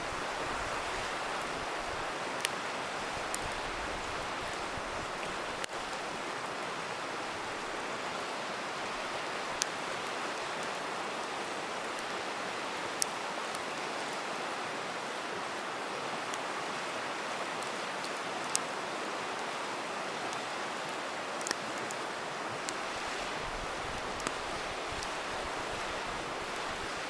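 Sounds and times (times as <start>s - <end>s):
river water rushing: 0.0s - 27.0s
campfire crackling and popping: 0.2s - 14.4s, 17.5s - 18.7s, 20.3s - 27.0s.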